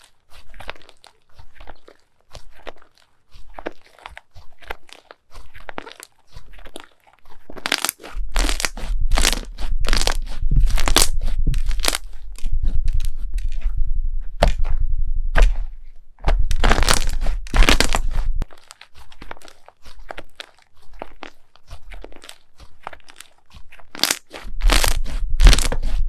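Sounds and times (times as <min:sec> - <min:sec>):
crunchy slime crackling: 0:00.0 - 0:26.0.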